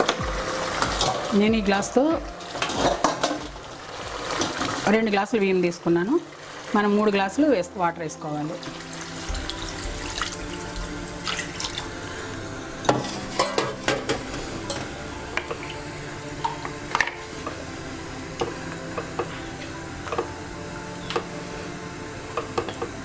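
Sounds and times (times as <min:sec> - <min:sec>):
water pouring into pot: 0:00.0 - 0:23.0.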